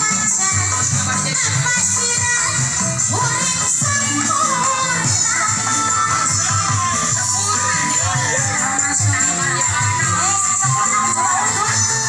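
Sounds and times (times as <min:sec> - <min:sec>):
dance music with bass and melody: 0:00.0 - 0:12.0.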